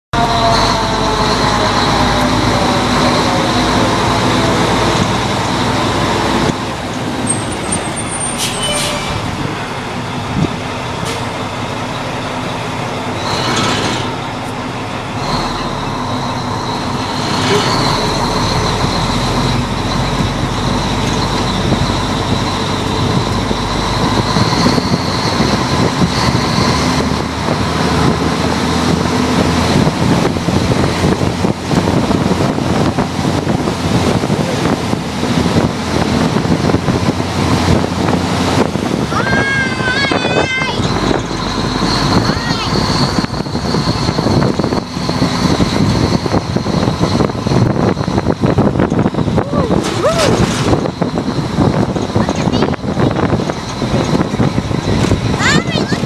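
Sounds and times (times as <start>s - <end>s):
road noise: 0.1s - 56.0s
truck engine running: 0.1s - 56.0s.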